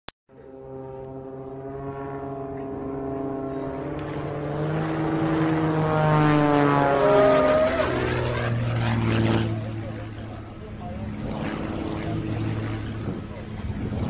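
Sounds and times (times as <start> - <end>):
propeller airplane engine droning: 0.3 - 14.0.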